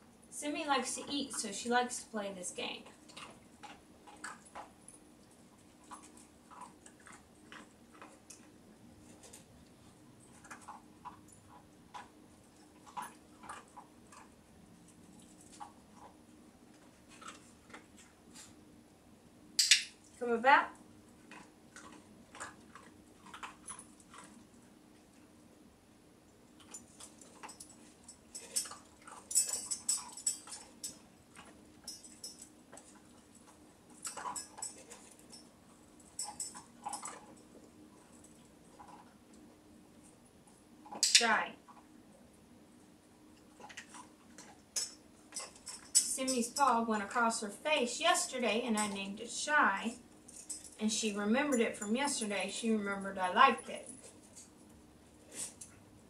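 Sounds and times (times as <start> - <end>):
dog eating kibble: 2.7 - 18.8, 19.9 - 25.6, 26.2 - 46.6, 51.5 - 56.0.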